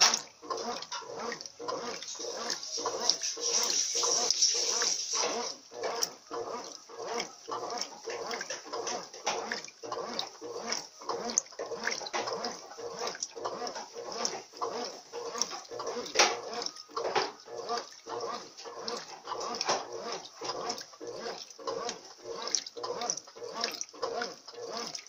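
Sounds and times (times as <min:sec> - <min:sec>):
motor hum: 0:00.0 - 0:25.0
washing machine churning and sloshing: 0:00.0 - 0:25.0.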